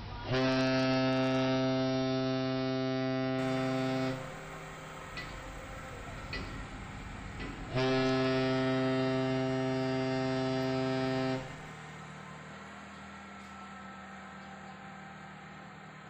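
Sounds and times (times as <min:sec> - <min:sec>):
loud pitched hum: 0:00.0 - 0:16.0.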